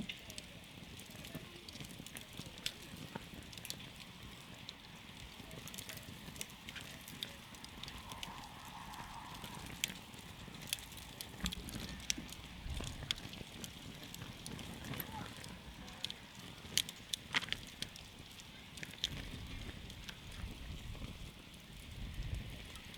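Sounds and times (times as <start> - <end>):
campfire crackling and popping: 0.0 - 22.9
low rumble of flames: 0.0 - 22.9.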